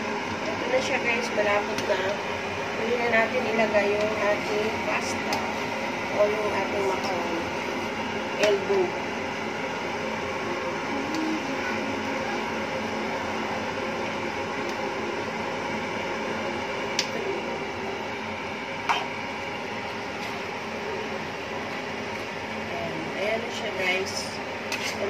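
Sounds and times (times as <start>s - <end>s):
kitchen hum and hiss: 0.0s - 25.0s.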